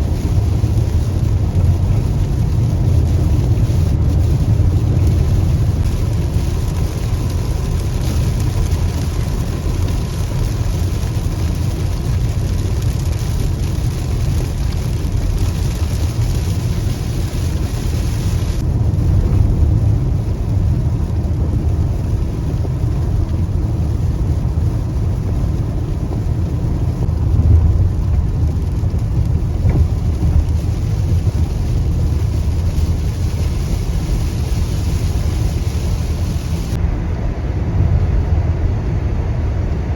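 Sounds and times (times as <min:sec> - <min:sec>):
rain hissing: 0:00.0 - 0:36.8
road and engine rumble: 0:00.0 - 0:39.9.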